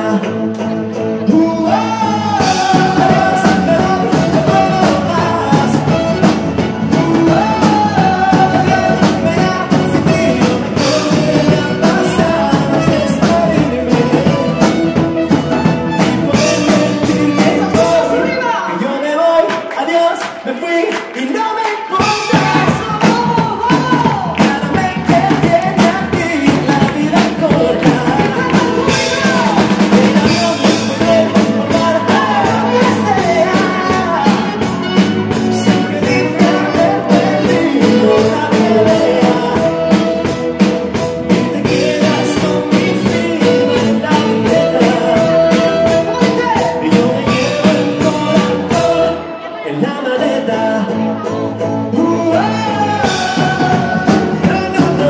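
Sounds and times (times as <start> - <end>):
amplified male vocals: 0.0 - 55.0
live band playing: 0.0 - 55.0.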